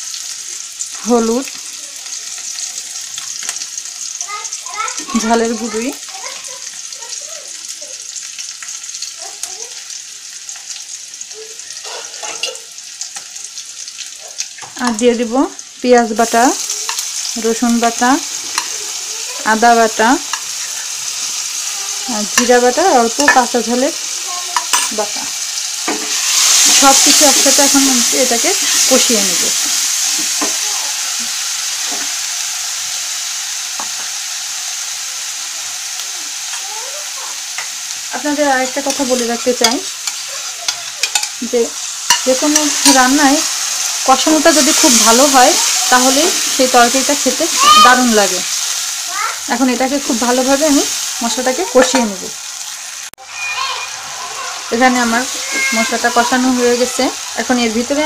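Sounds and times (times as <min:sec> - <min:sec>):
onion frying in hot oil: 0:00.0 - 0:58.0.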